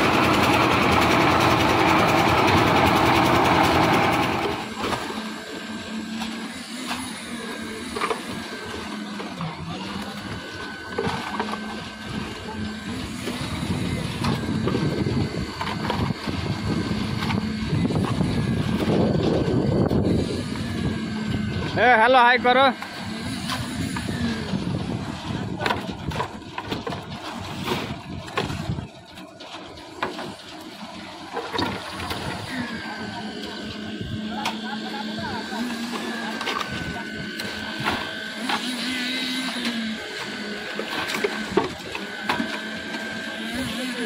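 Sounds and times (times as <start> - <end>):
concrete mixer engine running: 0.0 - 44.0.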